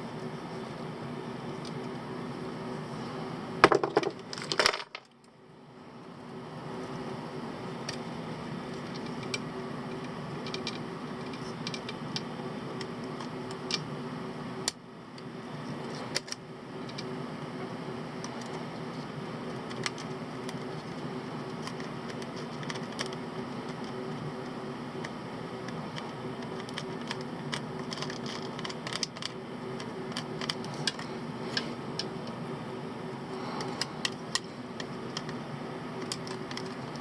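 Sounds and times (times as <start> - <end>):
small fan whirring: 0.0 - 37.0.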